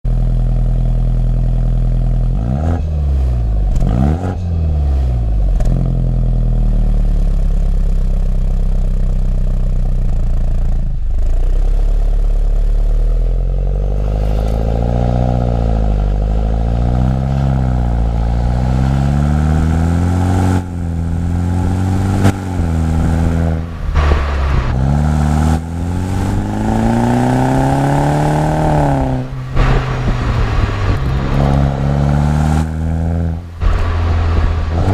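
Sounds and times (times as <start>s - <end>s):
car engine revving: 0.2s - 8.0s, 10.0s - 34.9s.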